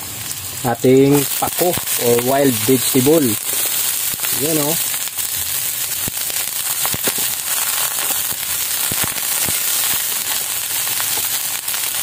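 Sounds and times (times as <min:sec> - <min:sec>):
greens sizzling and popping in wok: 0:00.0 - 0:12.0.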